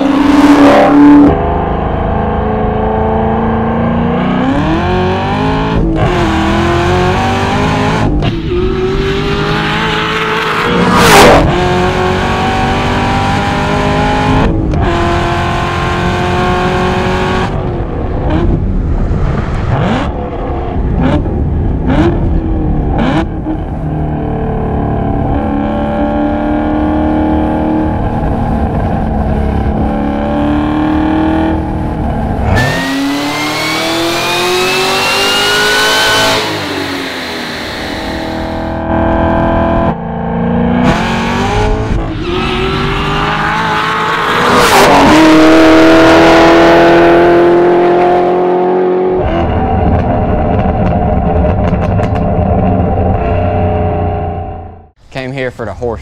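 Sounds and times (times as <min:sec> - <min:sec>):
car engine accelerating hard: 0:00.0 - 0:54.9.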